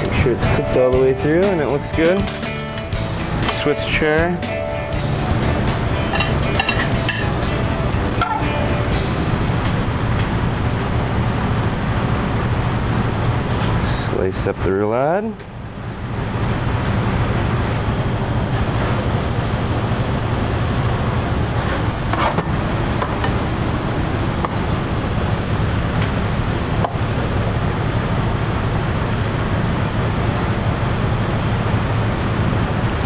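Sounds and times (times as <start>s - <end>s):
kitchen equipment droning: 0.0s - 33.0s.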